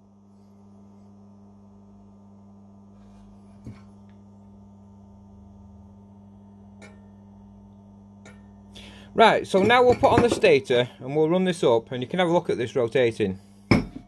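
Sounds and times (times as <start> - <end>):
faint mains hum: 0.0 - 14.0.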